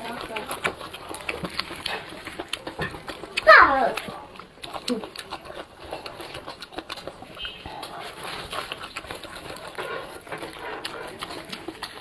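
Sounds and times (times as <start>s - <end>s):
chewing and mouth noises: 0.0s - 12.0s.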